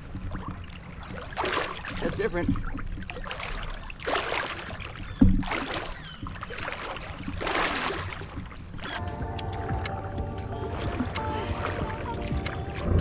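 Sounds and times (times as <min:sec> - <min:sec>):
water swishing around float tube: 0:00.0 - 0:13.0.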